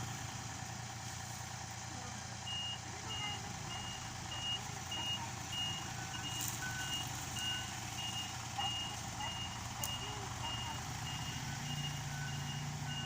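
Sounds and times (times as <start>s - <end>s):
engine running: 0.0s - 13.0s
lower-pitched reversing alarm: 2.4s - 13.0s
reversing alarm beeping: 2.4s - 13.0s.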